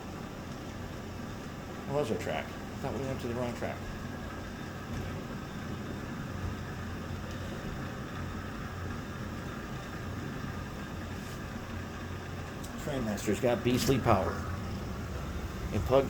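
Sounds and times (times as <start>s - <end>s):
cars rolling along track: 2.5s - 16.0s
model train motor hum: 2.6s - 16.0s.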